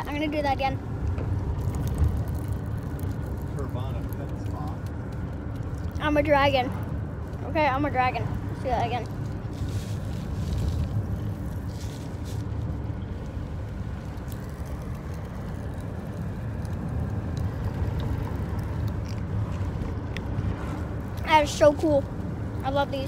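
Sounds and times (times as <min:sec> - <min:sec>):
car rumbling inside cabin: 0:00.0 - 0:23.0.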